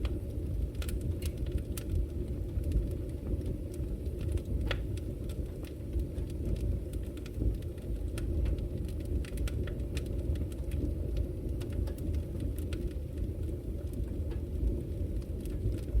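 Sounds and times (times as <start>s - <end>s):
fire flames rumbling: 0.0s - 16.0s
fire pops and snaps: 0.0s - 16.0s.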